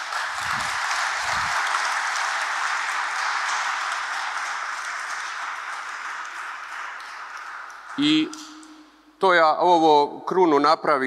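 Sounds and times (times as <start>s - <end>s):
congregation applauding: 0.0s - 9.1s.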